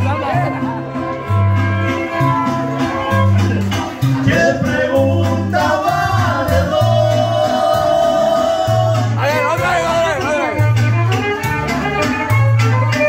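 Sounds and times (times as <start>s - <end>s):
band playing dance music: 0.0s - 13.0s
bass line: 0.0s - 13.0s.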